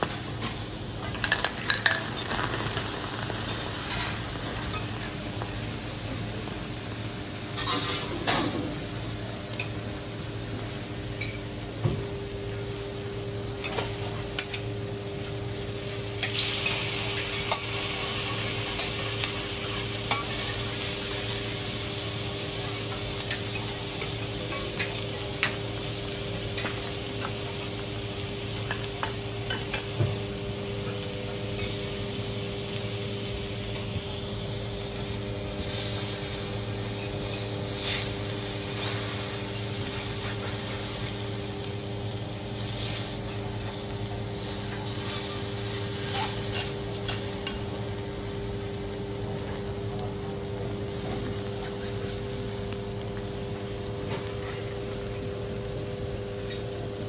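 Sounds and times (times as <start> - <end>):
food sizzling on griddle: 0.0 - 57.0.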